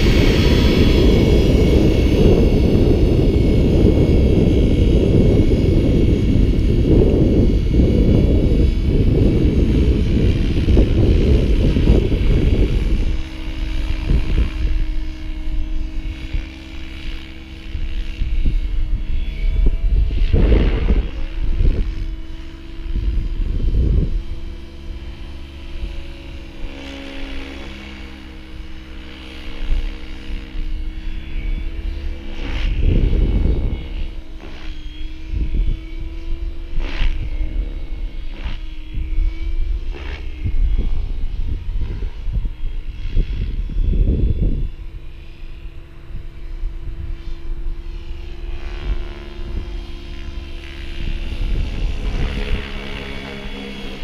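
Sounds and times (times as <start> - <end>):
model helicopter rotor whine: 0.0 - 54.0
wind buffeting microphone: 0.0 - 54.0.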